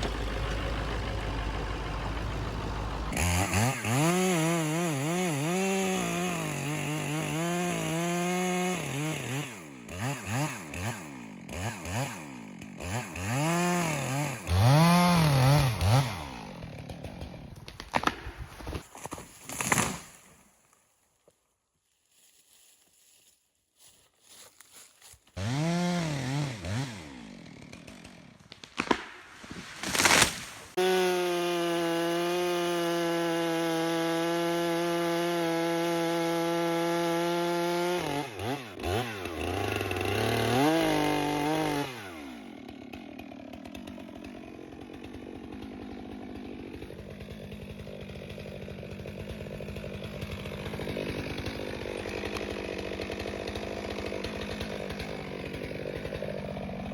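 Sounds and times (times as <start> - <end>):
chainsaw revving: 0.0 - 17.6, 25.4 - 56.9.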